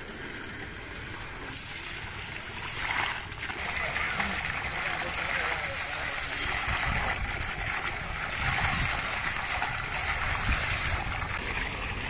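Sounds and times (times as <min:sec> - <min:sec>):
water splashing: 0:00.1 - 0:12.0
water pouring into metal pot: 0:01.5 - 0:12.0.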